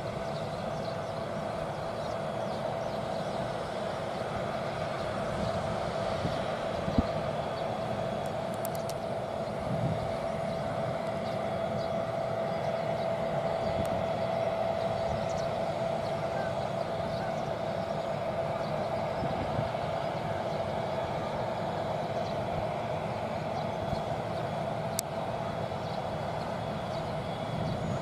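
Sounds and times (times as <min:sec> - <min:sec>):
mechanical drone with whine: 0:00.0 - 0:28.0.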